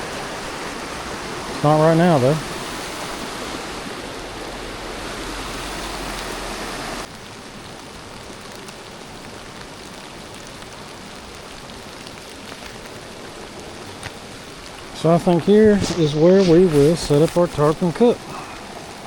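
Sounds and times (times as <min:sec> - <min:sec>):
running river water: 0:00.0 - 0:19.0
steady rain falling: 0:00.0 - 0:19.0.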